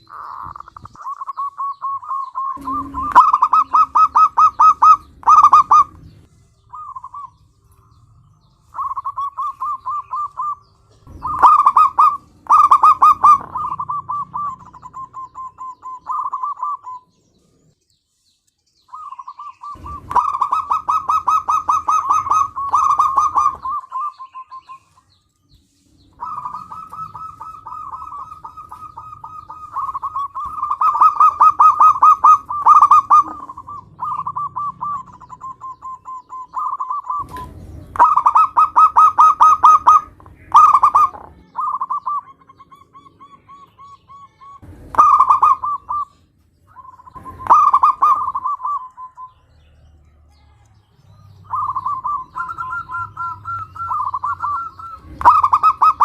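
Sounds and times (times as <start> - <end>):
dove cooing: 0.0 - 17.2, 18.9 - 25.1, 26.0 - 49.4, 51.4 - 56.0.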